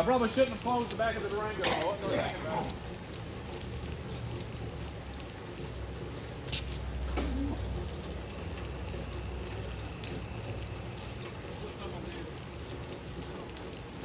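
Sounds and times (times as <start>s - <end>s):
steady rain-like hiss: 0.0s - 14.0s.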